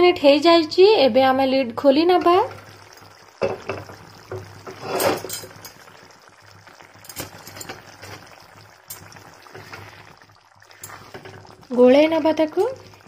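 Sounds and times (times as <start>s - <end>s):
thick gravy bubbling: 0.0s - 13.0s.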